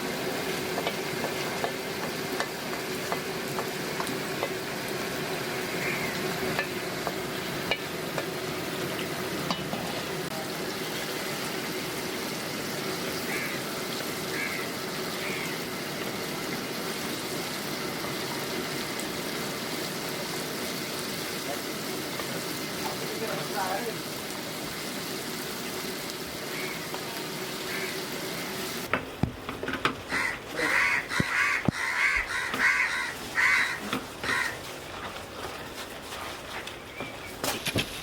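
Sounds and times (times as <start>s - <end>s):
sauce sizzling in a pan: 0.0s - 35.0s.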